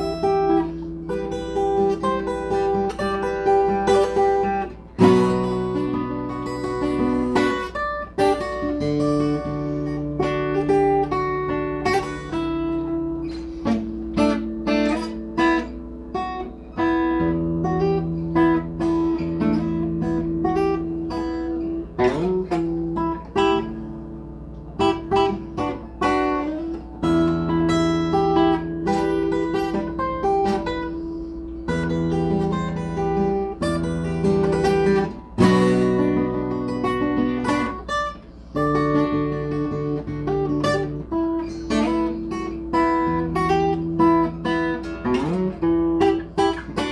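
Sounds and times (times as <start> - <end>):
acoustic guitar picking: 0.0 - 46.9.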